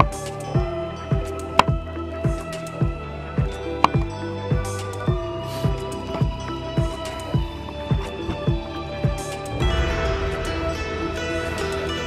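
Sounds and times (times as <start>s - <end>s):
music with kick drum beat: 0.0s - 12.0s.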